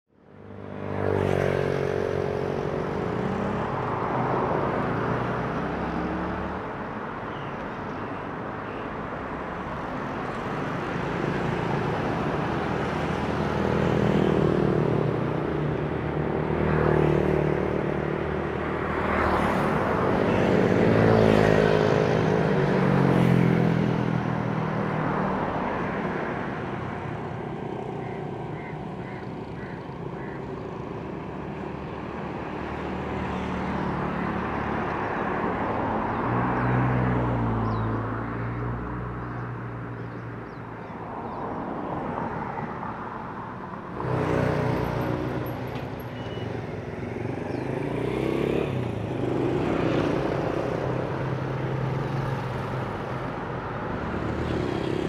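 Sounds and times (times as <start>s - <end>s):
cars and motorcycles passing: 0.2s - 55.0s.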